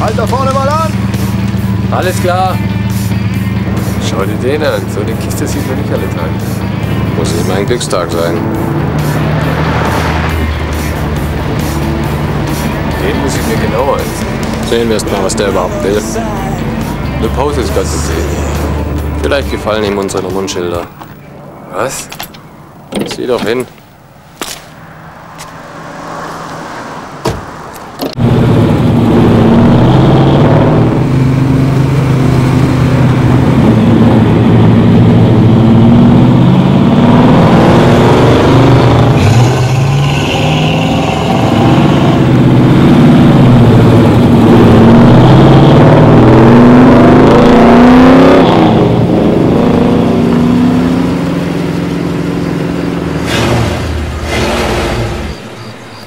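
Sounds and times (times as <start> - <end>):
car engines accelerating and revving: 0.0 - 23.6, 24.4 - 56.0.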